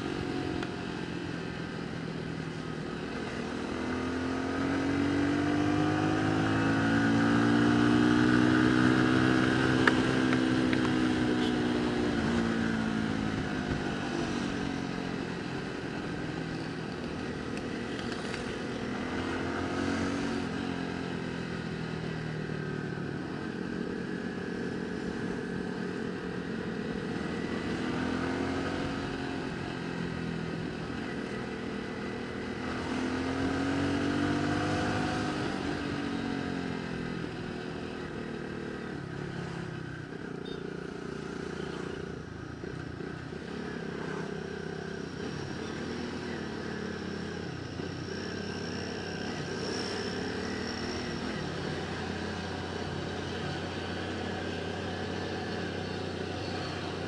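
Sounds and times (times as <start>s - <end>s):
motorcycle engine revving: 2.8s - 57.0s.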